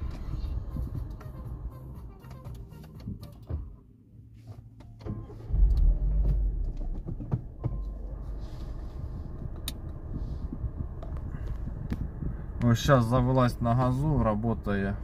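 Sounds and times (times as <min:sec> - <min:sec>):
car engine starting and idling: 0:00.0 - 0:15.0.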